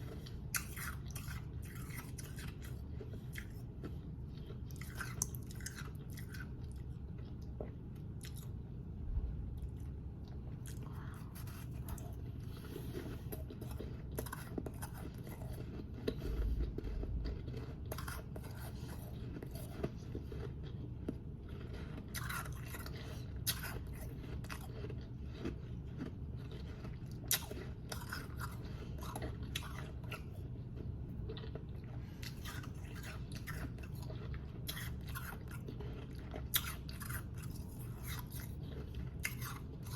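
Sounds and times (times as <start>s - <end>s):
chewing shaved ice: 0.0s - 8.8s, 9.5s - 39.9s.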